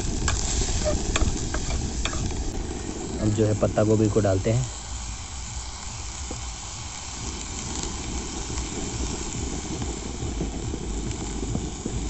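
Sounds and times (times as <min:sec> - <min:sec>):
wind rumble on microphone: 0:00.0 - 0:03.9, 0:04.7 - 0:12.0
gas burner hissing: 0:00.0 - 0:12.0
vegetables sizzling in hot oil: 0:00.0 - 0:12.0.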